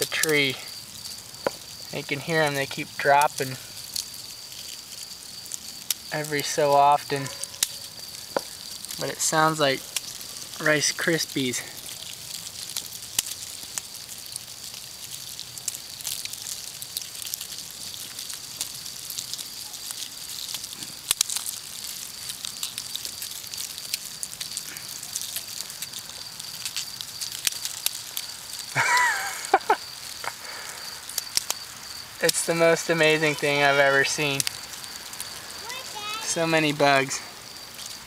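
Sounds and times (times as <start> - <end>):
crackle of cicadas clicking: 0.0 - 38.0.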